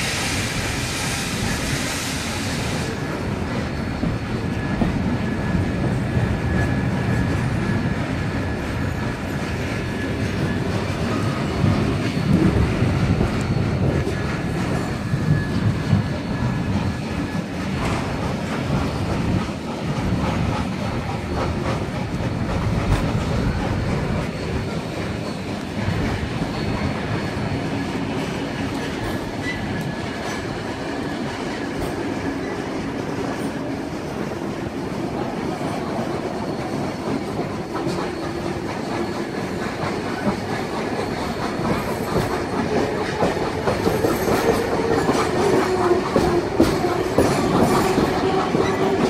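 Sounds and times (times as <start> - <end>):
train wheels rumbling: 0.0 - 49.0.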